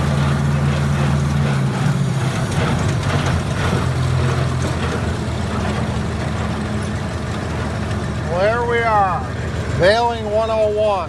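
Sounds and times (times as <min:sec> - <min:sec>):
hay baler clattering: 0:00.0 - 0:11.0
tractor engine running: 0:00.0 - 0:11.0.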